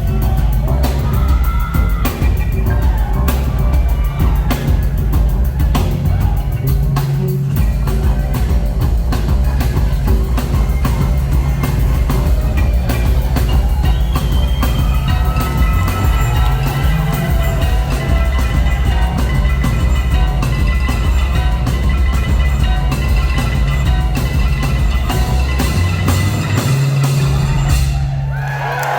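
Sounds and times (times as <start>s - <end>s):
heavy bass line: 0.0s - 28.4s
live band music: 0.0s - 28.4s
drum kit beat: 0.0s - 28.6s.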